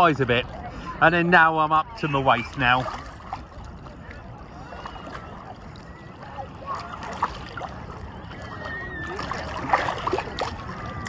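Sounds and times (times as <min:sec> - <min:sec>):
sea water sloshing and lapping: 0:00.0 - 0:11.0
small water splashes: 0:00.0 - 0:11.0.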